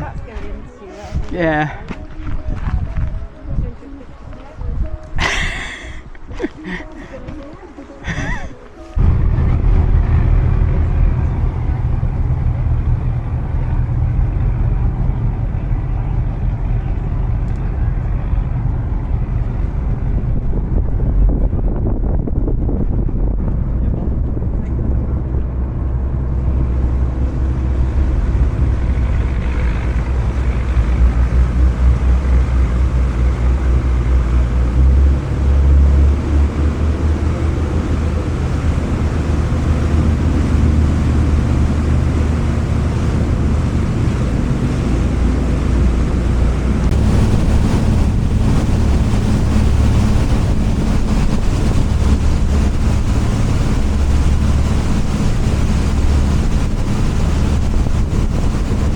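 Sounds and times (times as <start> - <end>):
boat engine rumble: 0.0 - 58.9
wind buffeting microphone: 0.0 - 58.9.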